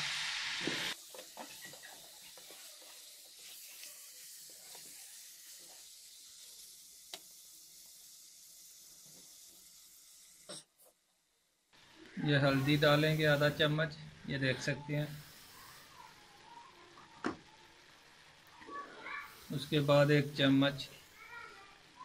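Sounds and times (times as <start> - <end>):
meat sizzling in a pot: 0.0 - 10.7, 11.3 - 13.8, 14.4 - 22.0.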